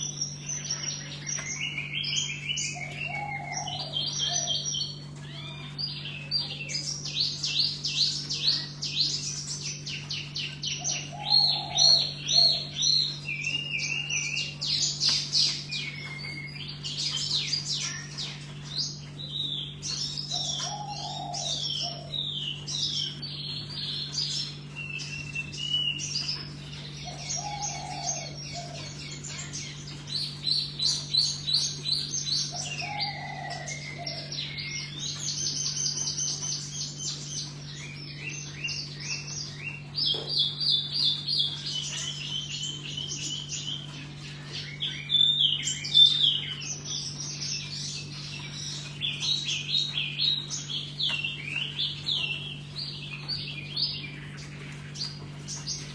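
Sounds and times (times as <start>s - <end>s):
songbird chirping: 0.0s - 55.9s
steady low hum: 0.0s - 55.9s.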